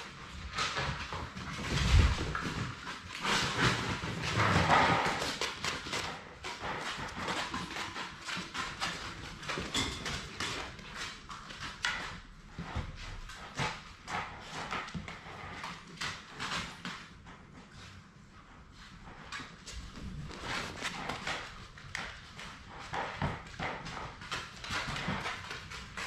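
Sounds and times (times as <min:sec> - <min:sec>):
puppy paws clicking on floor: 0:00.0 - 0:26.0.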